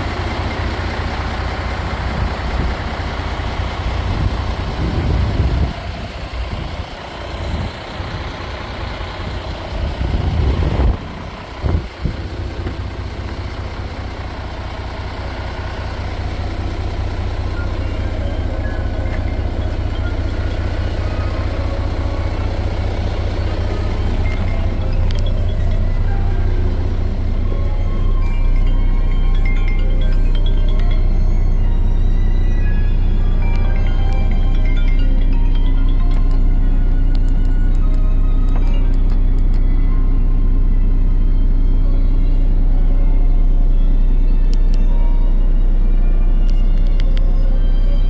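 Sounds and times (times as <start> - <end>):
diesel truck engine idling: 0.0 - 48.0.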